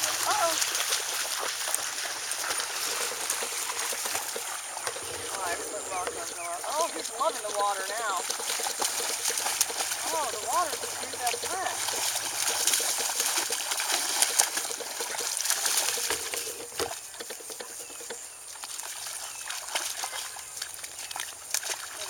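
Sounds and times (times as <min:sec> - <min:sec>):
water splashing: 0:00.0 - 0:22.0.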